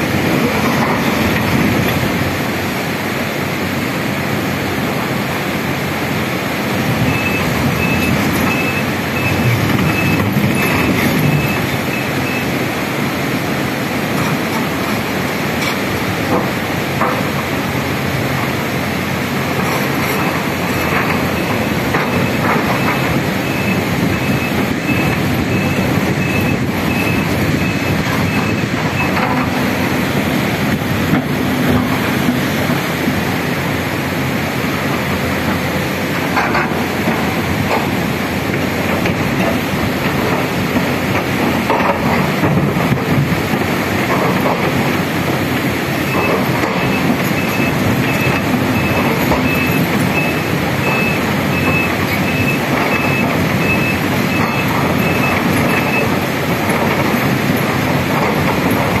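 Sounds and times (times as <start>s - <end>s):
excavator engine: 0.0s - 59.0s
fast river rushing: 0.0s - 59.0s.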